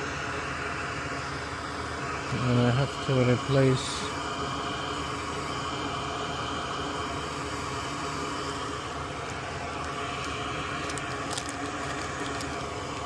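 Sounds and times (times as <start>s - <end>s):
mechanical hum of equipment: 0.0s - 13.0s.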